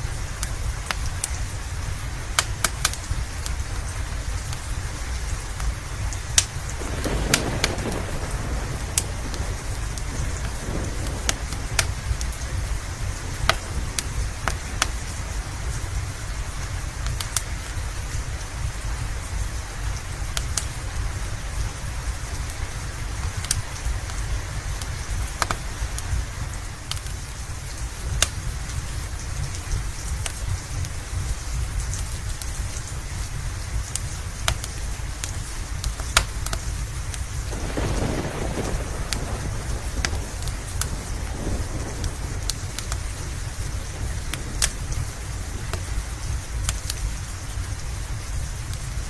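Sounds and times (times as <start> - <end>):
steady rain: 0.0 - 49.0
wood fire crackling: 0.0 - 49.0.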